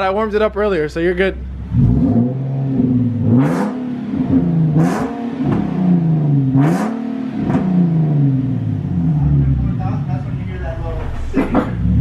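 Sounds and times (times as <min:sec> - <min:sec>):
car engine revving: 0:01.0 - 0:12.0.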